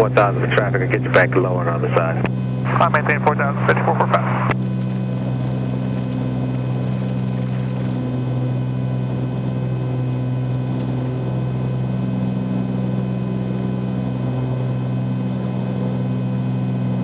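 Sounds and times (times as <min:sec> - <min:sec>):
propeller plane engines droning: 0:00.0 - 0:17.0.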